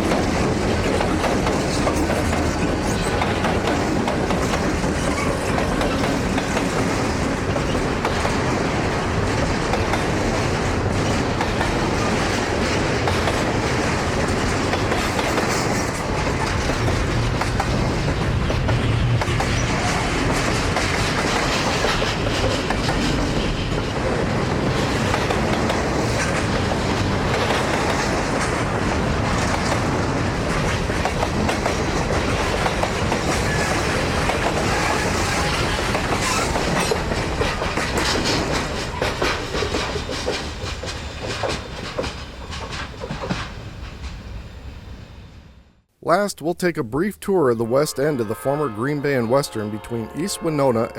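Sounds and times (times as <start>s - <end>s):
wheels clicking over rail joints: 0.0s - 44.2s
freight train rumble: 0.0s - 45.6s.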